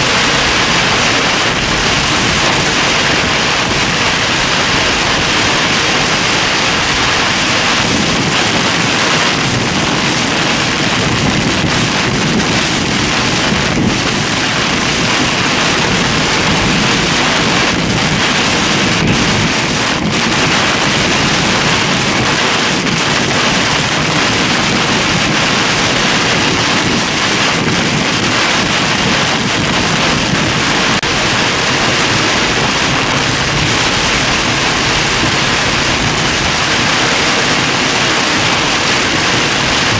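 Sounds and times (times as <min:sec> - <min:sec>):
heavy rain on a vehicle: 0:00.0 - 0:39.9.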